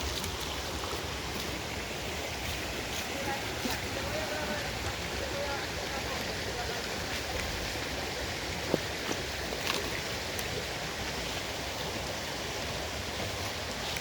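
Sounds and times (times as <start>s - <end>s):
rushing river water: 0.0s - 14.0s.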